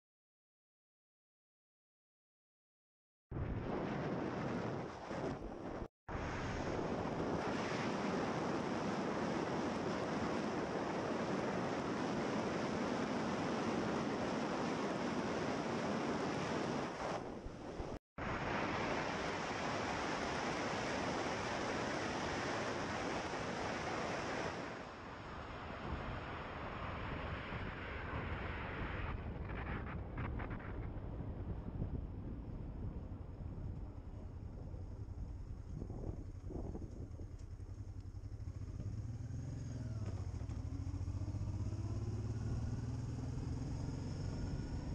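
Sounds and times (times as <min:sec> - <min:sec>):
wind rushing over microphone: 0:03.4 - 0:44.9.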